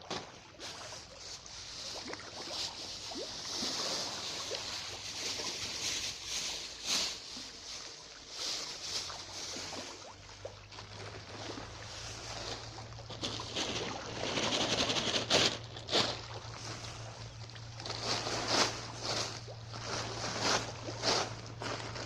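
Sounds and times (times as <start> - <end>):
pond water splashing: 0.0 - 22.0.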